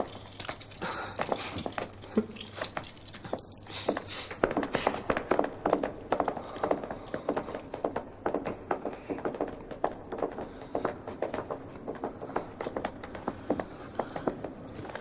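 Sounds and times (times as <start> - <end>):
footsteps on hard floor: 0.0 - 15.0.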